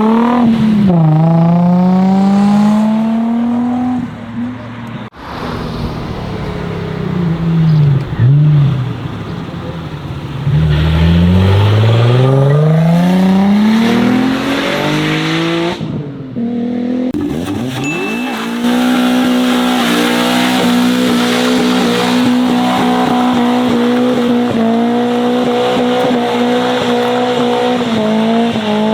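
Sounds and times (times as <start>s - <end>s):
car engine revving through loud exhaust: 0.0s - 4.2s, 5.1s - 28.9s.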